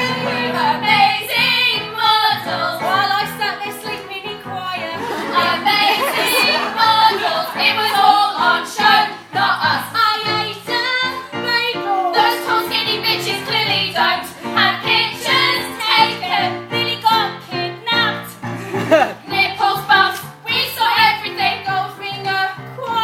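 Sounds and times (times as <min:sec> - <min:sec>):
women singing: 0:00.0 - 0:23.0.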